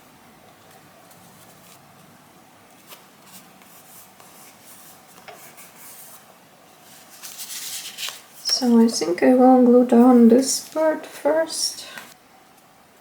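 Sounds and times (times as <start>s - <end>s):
paper rustling: 0.6s - 11.1s.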